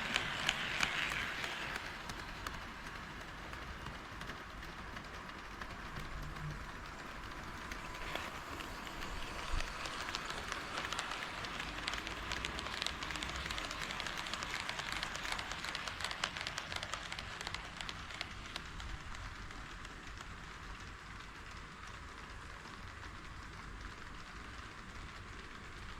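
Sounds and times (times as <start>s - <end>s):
model train wheels clicking on rails: 0.0s - 25.9s.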